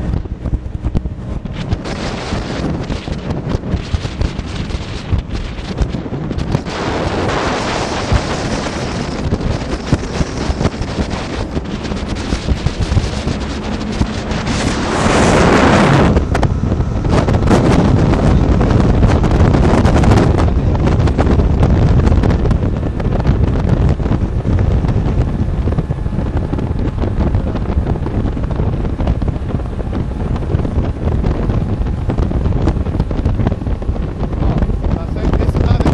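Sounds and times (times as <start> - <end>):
outboard motor running: 0.0 - 35.9
water rushing: 0.0 - 35.9
wind buffeting microphone: 0.0 - 35.9.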